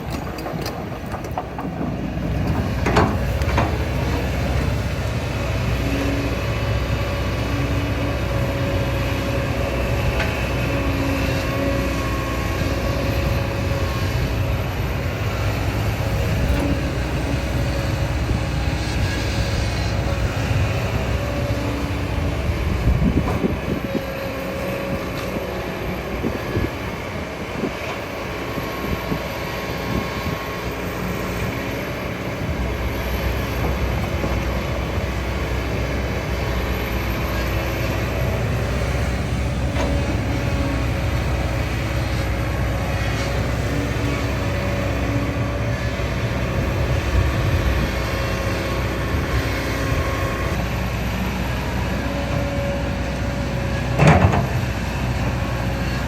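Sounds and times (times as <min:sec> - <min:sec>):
excavator engine rumbling: 0:00.0 - 0:56.0.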